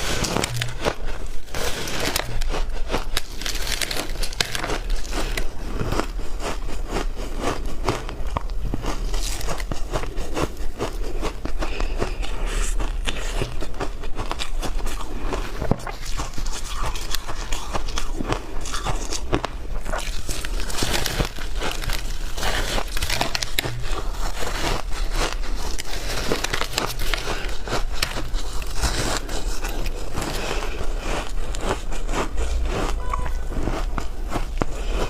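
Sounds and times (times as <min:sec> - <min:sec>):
shaved ice being chewed: 0:00.0 - 0:35.0
steady low hum: 0:00.0 - 0:35.0.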